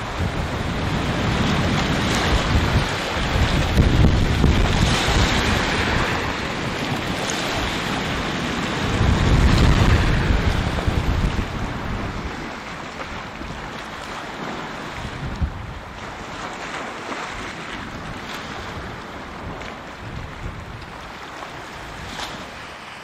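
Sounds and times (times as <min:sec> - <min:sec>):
sea waves on shore: 0:00.0 - 0:23.0
wind buffeting microphone: 0:00.0 - 0:23.0.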